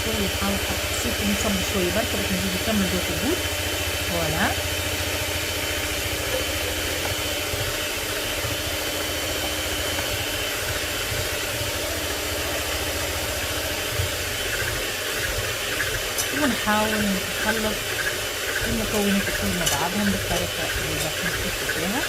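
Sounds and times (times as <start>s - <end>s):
electric mixer beating batter: 0.0s - 22.0s.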